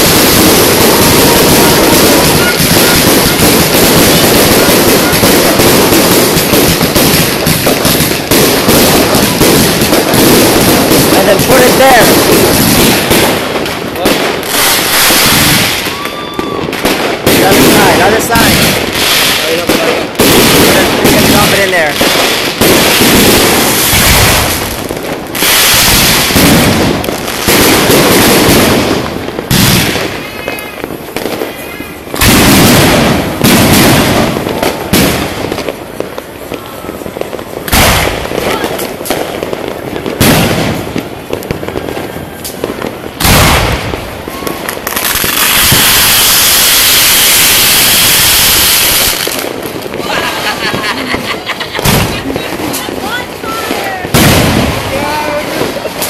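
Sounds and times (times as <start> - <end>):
fireworks crackling bangs: 0.0 - 56.0.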